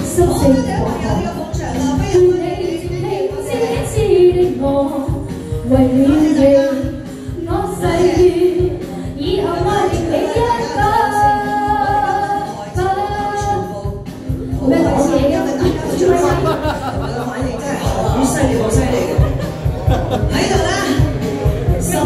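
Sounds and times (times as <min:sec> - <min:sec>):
woman singing into microphone: 0:00.0 - 0:17.6, 0:20.2 - 0:22.0
pop backing track with beat: 0:00.0 - 0:22.0.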